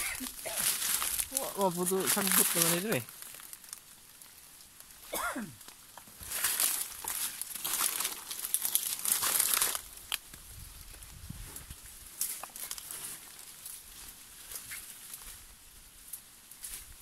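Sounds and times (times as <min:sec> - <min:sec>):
leaves rustling and crackling: 0:00.0 - 0:17.0.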